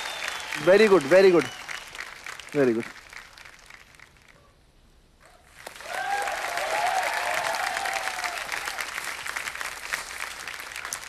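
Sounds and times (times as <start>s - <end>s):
studio audience applause: 0.0s - 4.3s, 5.6s - 11.0s.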